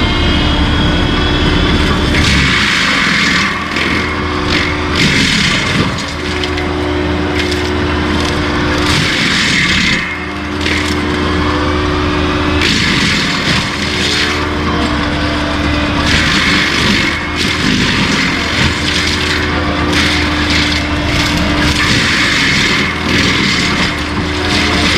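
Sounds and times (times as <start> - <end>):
mulcher grinding and chipping: 0.0 - 24.9
skid steer engine running: 0.0 - 24.9.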